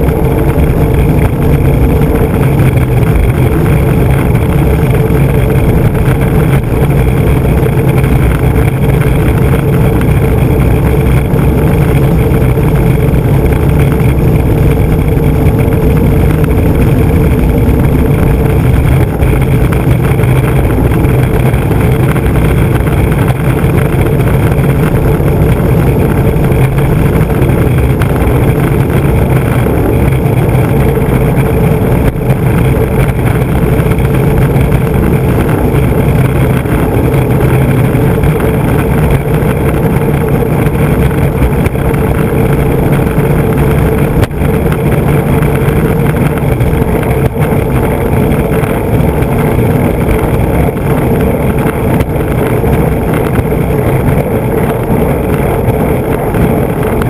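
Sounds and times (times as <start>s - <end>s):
skateboard wheels rolling on asphalt: 0.0s - 57.0s.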